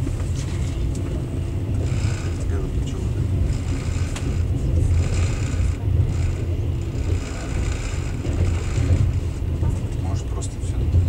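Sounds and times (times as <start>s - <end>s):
train running gear rumbling: 0.0s - 11.0s.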